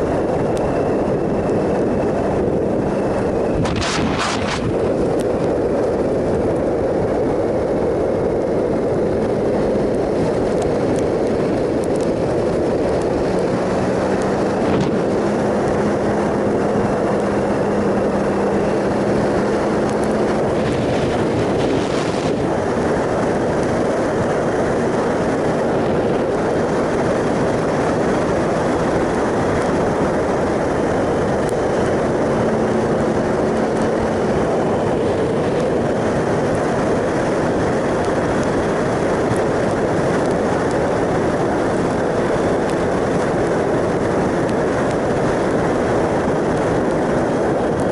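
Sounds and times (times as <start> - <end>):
motorcycle engine cruising: 0.0 - 47.9
wind and road noise: 0.0 - 47.9.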